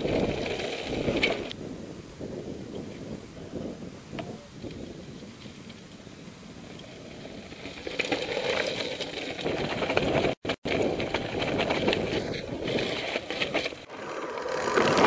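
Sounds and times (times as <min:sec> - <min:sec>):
bike rattling: 0:00.0 - 0:15.0.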